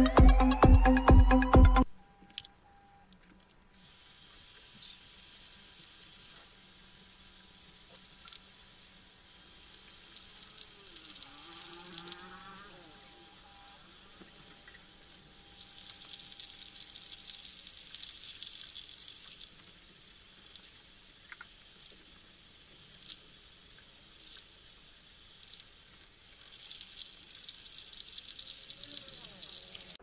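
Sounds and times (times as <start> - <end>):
melting wax sizzling and bubbling: 3.8 - 30.0.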